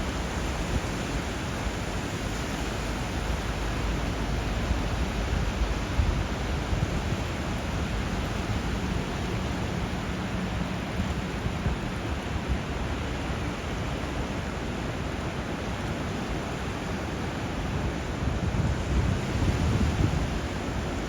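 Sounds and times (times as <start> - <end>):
river rushing into surf: 0.0 - 21.0.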